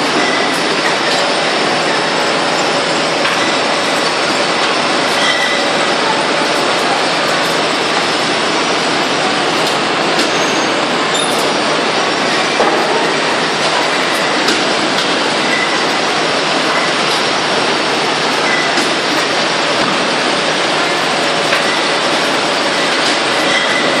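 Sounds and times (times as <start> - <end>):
machinery and bottles clattering: 0.0 - 24.0.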